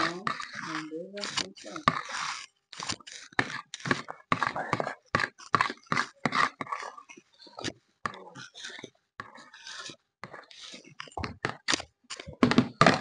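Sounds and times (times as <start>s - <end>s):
metal spoon scraping plastic tub: 0.0s - 13.0s.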